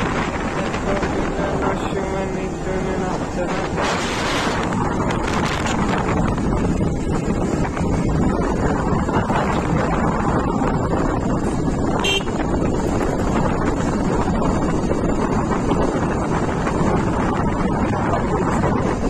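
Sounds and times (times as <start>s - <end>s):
motorcycle running: 0.0s - 19.0s
wind rushing over microphone: 0.0s - 19.0s.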